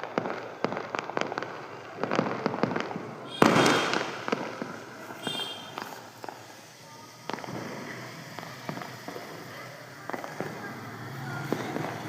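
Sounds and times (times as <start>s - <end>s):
loud firework bang: 0.0s - 6.5s, 7.2s - 10.7s
fireworks crackling pops: 0.0s - 12.0s.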